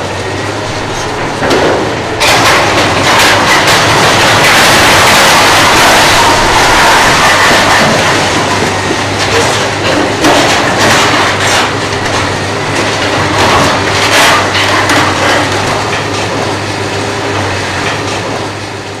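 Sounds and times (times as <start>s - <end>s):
metal clanking and scraping: 0.0s - 16.6s
excavator engine drone: 0.0s - 19.0s
debris crashing: 0.1s - 16.7s.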